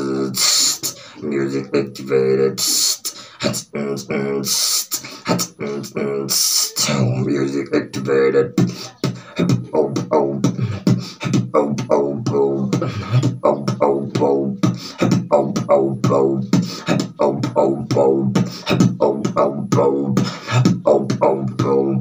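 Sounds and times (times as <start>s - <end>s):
beatboxing: 0.0s - 22.0s.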